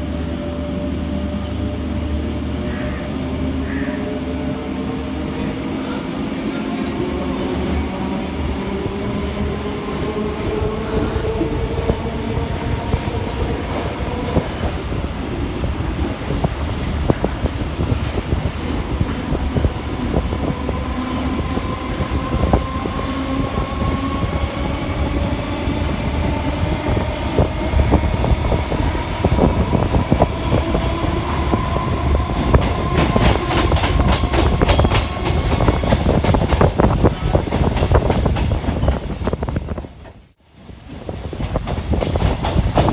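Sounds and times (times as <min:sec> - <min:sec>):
wheels rumbling on rails: 0:00.0 - 0:42.9.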